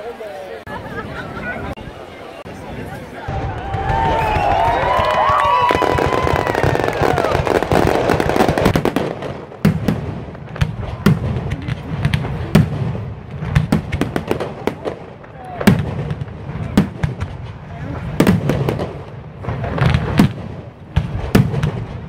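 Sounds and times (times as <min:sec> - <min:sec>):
fireworks crackling: 0:00.8 - 0:22.0
fireworks bangs: 0:02.5 - 0:22.0.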